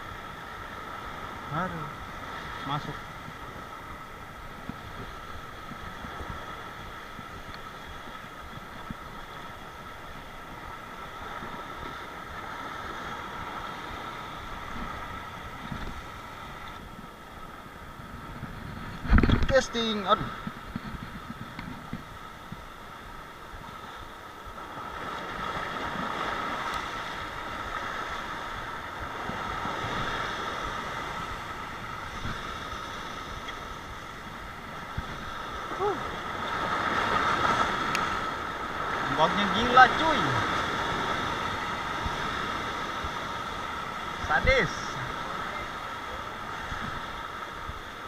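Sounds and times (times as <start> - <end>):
sea surf: 0.0 - 48.0
wind on microphone: 2.1 - 48.0.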